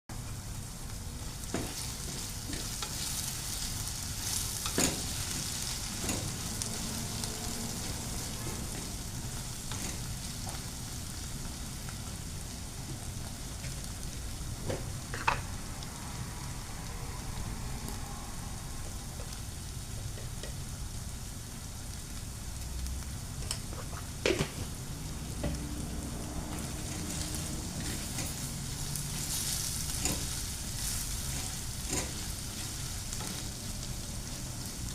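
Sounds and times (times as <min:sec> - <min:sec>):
food sizzling in a frying pan: 0:00.2 - 0:34.9.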